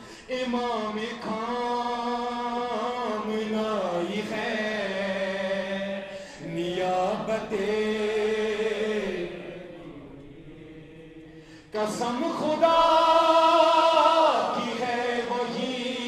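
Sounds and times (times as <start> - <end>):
man chanting: 0.2 - 11.1, 11.7 - 16.0.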